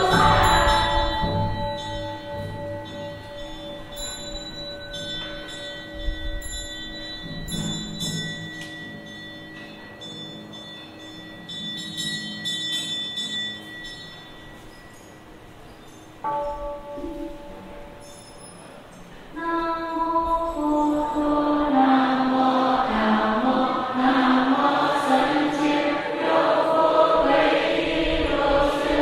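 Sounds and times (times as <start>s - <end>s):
bowl bells ringing: 0.0s - 26.8s.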